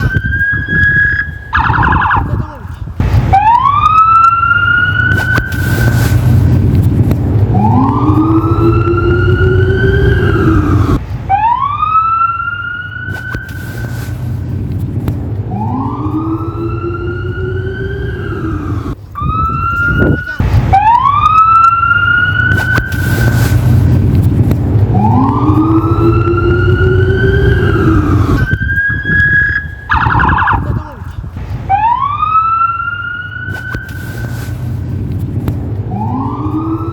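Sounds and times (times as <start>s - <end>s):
low siren tone rising: 0.0s - 2.4s, 3.0s - 30.8s, 31.4s - 36.9s
emergency vehicle sirens wailing: 0.0s - 36.9s
steady low rumble: 0.0s - 36.9s.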